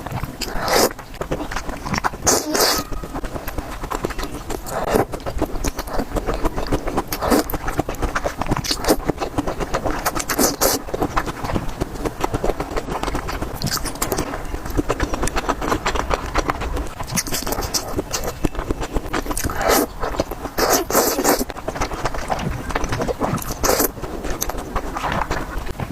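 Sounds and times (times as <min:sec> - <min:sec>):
loud slurps: 0:00.0 - 0:18.3, 0:19.1 - 0:25.9
chewing with wet mouth clicks: 0:00.0 - 0:25.9.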